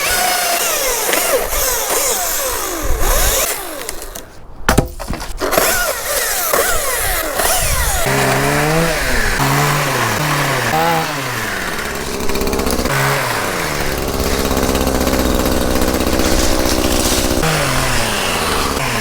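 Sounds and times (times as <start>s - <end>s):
chainsaw revving and cutting branches: 0.0s - 4.3s, 5.4s - 19.0s.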